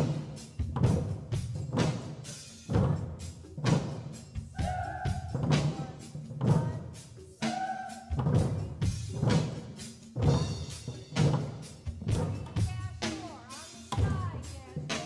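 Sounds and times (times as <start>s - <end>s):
mallets drumming on plastic buckets: 0.0s - 15.0s.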